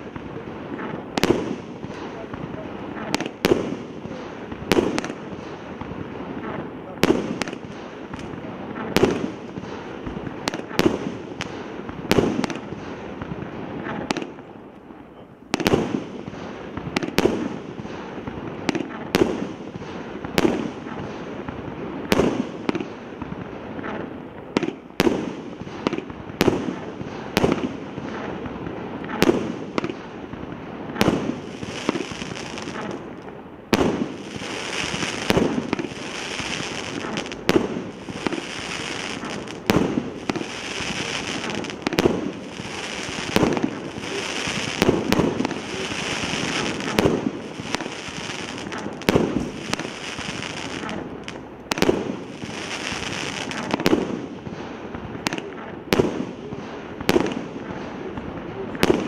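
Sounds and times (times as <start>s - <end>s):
crackling hiss of bursting stars: 0.0s - 59.0s
firework bangs: 0.0s - 59.0s.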